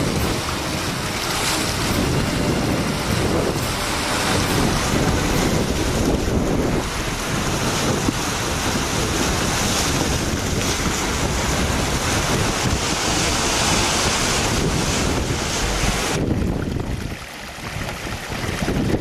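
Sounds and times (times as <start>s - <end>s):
sea surf: 0.0s - 19.0s
wind buffeting microphone: 0.0s - 19.0s.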